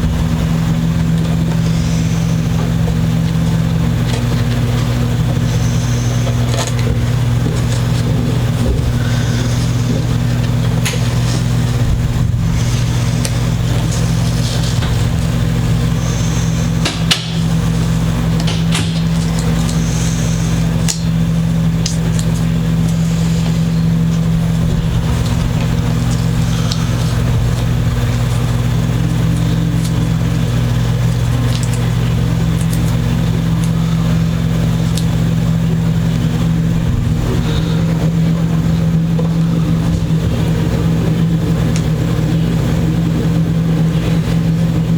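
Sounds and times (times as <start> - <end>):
motor humming: 0.0 - 44.9.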